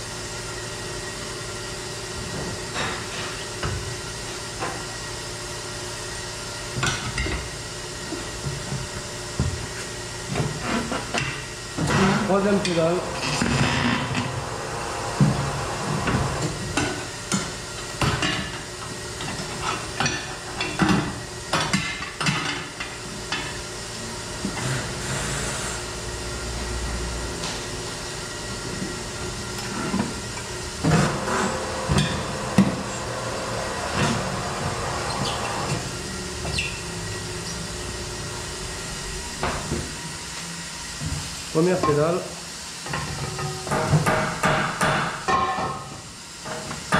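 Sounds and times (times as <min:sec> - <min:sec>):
tyre changer machine humming: 0:00.0 - 0:21.8, 0:22.7 - 0:43.7.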